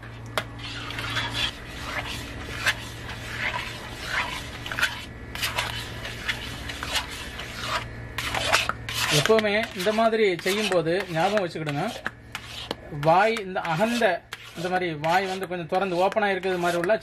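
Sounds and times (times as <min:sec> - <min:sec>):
steady low hum: 0:00.0 - 0:17.0
wooden spatula scraping pan: 0:00.0 - 0:17.0.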